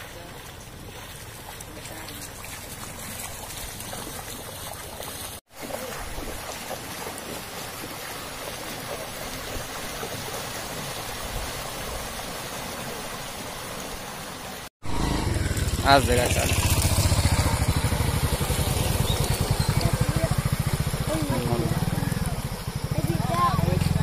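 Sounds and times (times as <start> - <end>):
floodwater rushing over road: 0.0 - 24.0.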